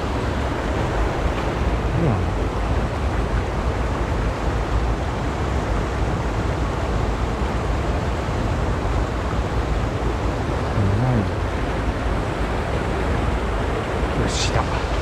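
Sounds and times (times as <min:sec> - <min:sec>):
stream rushing over weir: 0:00.0 - 0:15.0.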